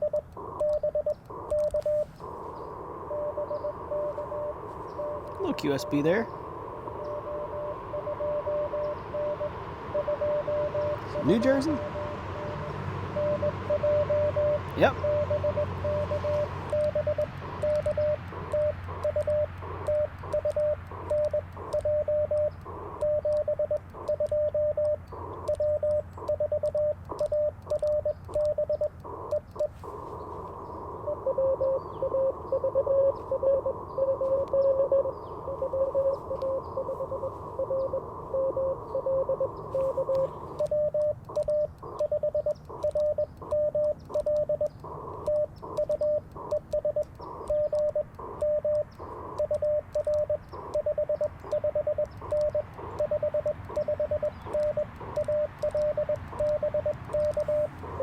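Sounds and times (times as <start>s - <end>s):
morse code sidetone: 0.0s - 58.0s
radio band hiss: 0.0s - 58.0s
weak morse signal: 0.0s - 58.0s.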